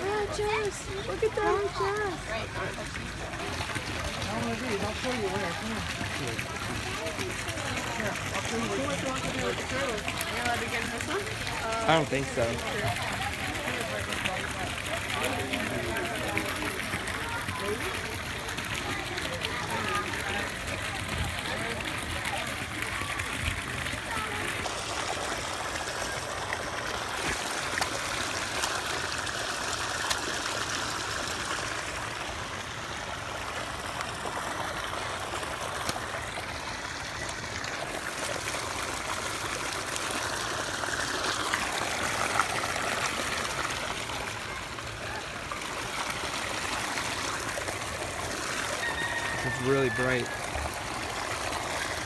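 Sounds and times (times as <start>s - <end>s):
water churning and splashing: 0.0s - 52.0s.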